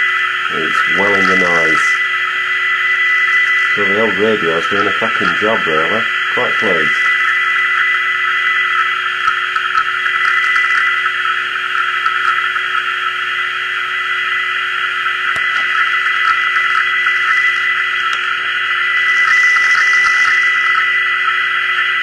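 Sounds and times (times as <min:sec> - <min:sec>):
radio receiver hiss: 0:00.0 - 0:22.0
steady radio tone: 0:00.0 - 0:22.0.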